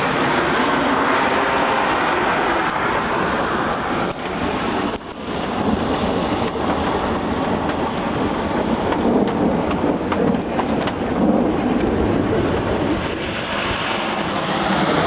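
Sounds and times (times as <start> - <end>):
traffic on wet street: 0.0 - 15.0.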